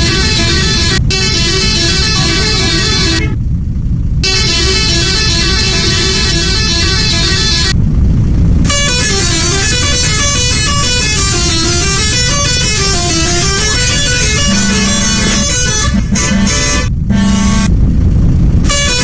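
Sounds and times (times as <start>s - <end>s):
musical bus horn playing tune: 0.0s - 3.4s, 4.2s - 7.8s, 8.7s - 17.7s, 18.6s - 19.0s
low rumble: 0.0s - 19.0s.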